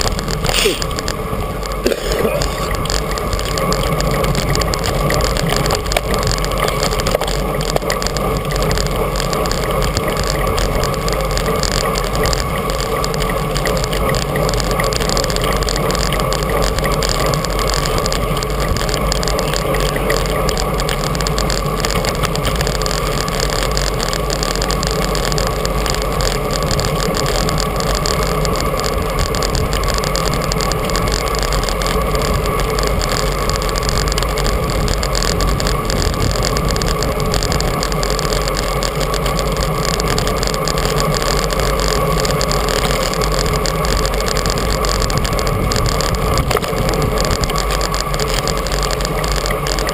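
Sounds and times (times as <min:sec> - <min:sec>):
wind and road noise: 0:00.0 - 0:49.9.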